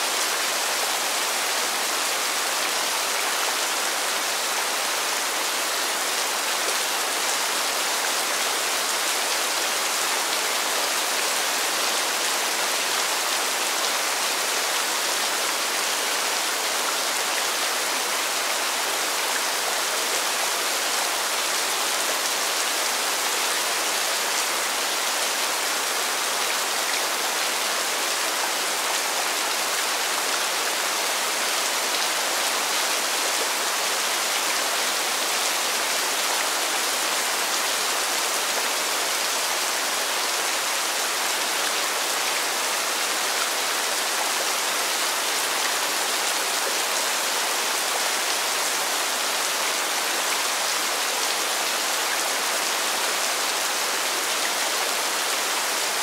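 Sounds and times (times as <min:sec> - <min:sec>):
rain falling steadily: 0:00.0 - 0:56.0.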